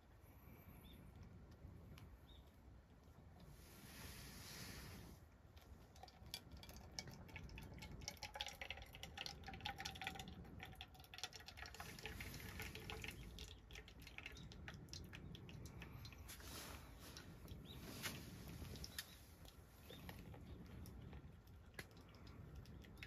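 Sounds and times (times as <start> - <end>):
small drips and clicks: 0.8 - 3.6, 5.3 - 23.0
hot water trickling: 3.4 - 23.0.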